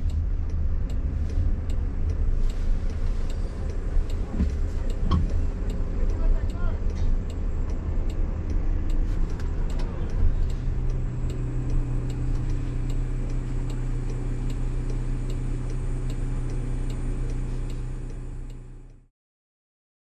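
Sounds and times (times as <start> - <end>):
car turn signal ticking: 0.0 - 19.1
low cabin hum: 0.0 - 19.1.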